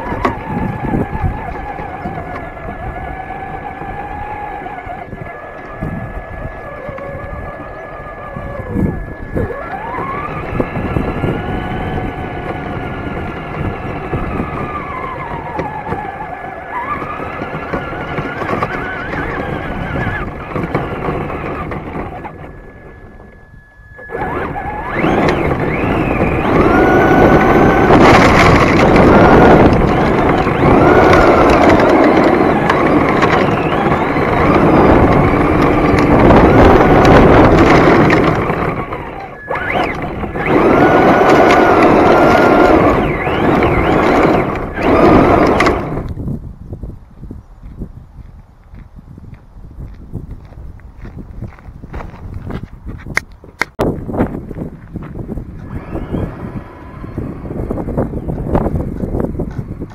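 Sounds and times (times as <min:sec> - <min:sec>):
electric motor whine: 0:00.0 - 0:46.4, 0:54.6 - 0:59.9
tyres on gravel: 0:00.0 - 0:59.9.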